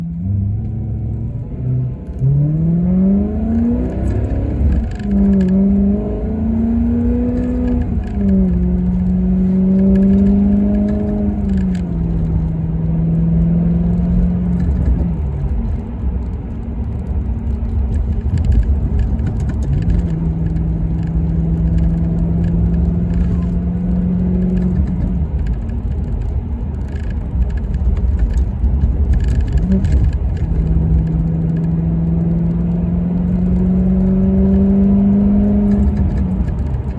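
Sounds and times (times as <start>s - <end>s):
car engine accelerating hard: 0.0s - 36.9s.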